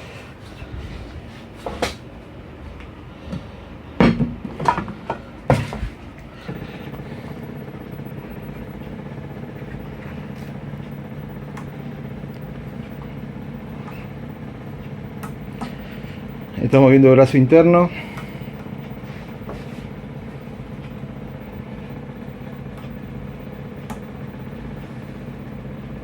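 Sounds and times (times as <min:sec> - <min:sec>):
motor hum with held tones: 0:00.0 - 0:26.0.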